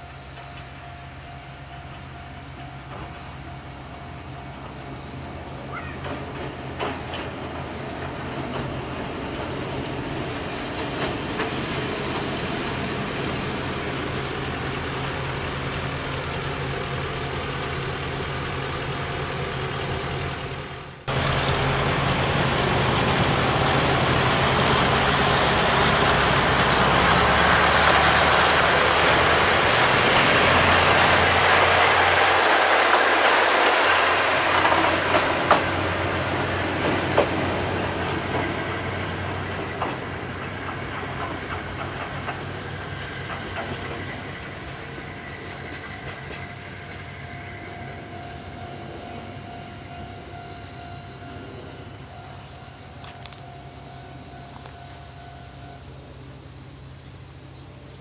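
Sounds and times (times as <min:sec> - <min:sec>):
diesel railcar engine passing: 0:00.0 - 0:58.0.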